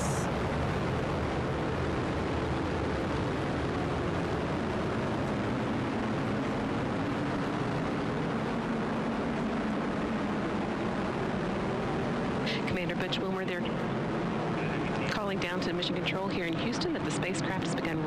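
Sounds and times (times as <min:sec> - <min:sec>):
rocket engine rumble: 0:00.0 - 0:18.0.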